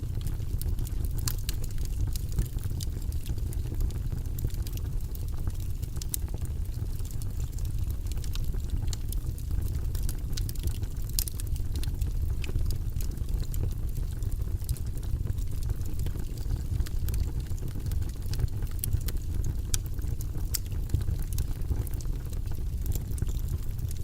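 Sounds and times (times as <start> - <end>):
fire crackling and popping: 0.0 - 24.0
low rush of flames: 0.0 - 24.0.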